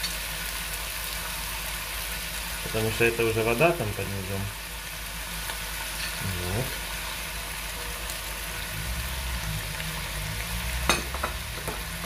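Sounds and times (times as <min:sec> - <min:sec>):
cabbage and meat sizzling in a pan: 0:00.0 - 0:12.0.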